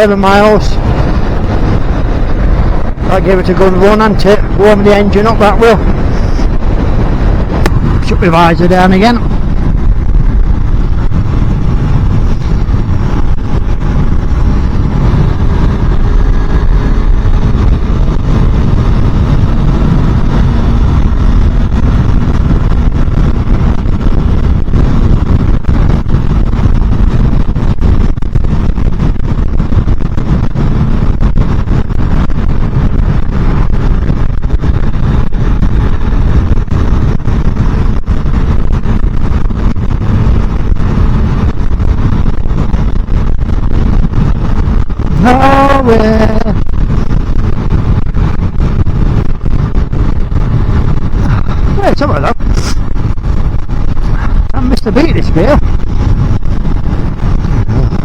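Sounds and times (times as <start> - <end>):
motorcycle engine rumble: 0.0 - 58.0
wind rush on microphone: 0.0 - 58.0.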